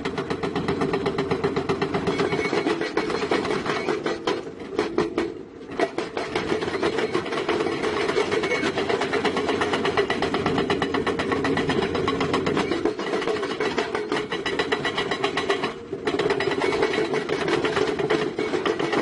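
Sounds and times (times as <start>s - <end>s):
heavy diesel engine clattering: 0.0s - 19.0s.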